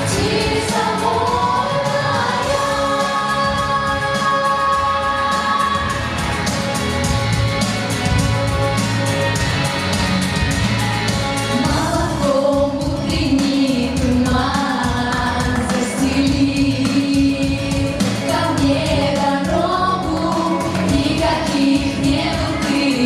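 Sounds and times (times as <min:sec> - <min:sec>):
backing track with steady beat: 0:00.0 - 0:23.0
singers performing pop song: 0:00.0 - 0:23.0.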